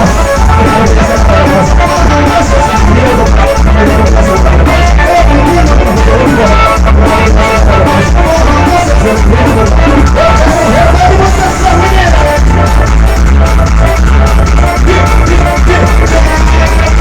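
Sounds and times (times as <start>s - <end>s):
loud music with heavy bass: 0.0s - 17.0s.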